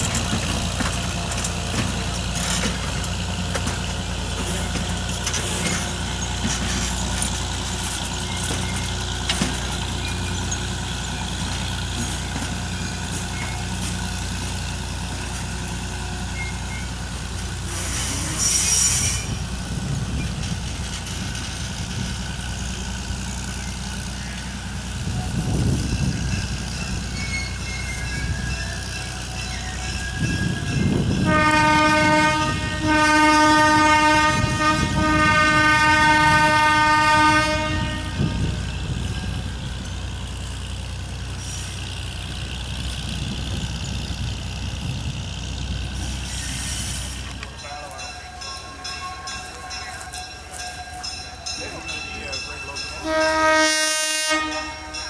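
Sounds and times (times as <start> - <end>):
locomotive low rumble: 0.0 - 55.0.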